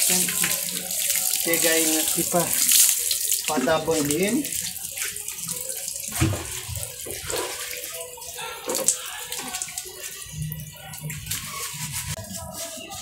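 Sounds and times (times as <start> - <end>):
hose water splashing on dog: 0.0 - 13.0
water running onto concrete: 0.0 - 13.0.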